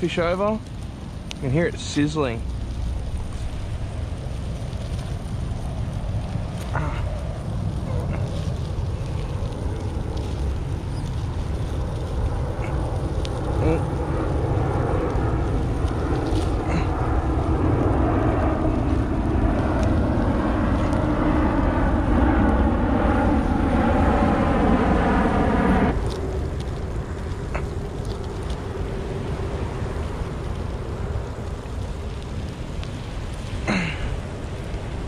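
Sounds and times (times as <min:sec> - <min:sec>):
steady droning hum: 0:00.0 - 0:35.0
wind buffeting microphone: 0:00.0 - 0:35.0.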